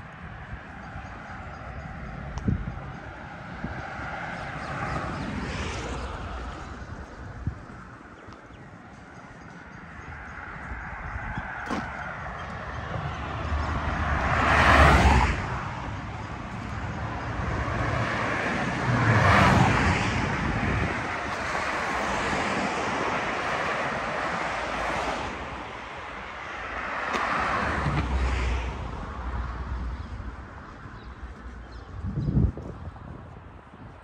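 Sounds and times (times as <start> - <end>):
steady traffic rumble: 0.0 - 34.0
vehicles passing: 0.0 - 34.0.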